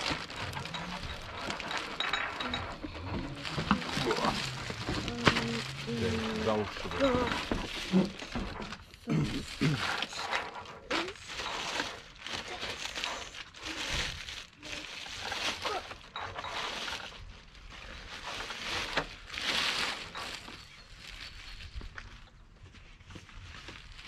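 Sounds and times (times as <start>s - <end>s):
cardboard and plastic rustling: 0.0s - 24.0s.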